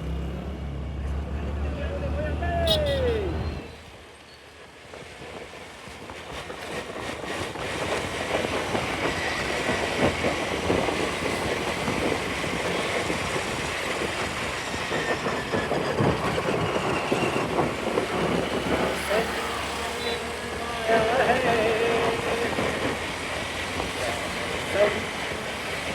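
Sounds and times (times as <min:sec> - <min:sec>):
vehicle and road noise: 0:00.0 - 0:25.9.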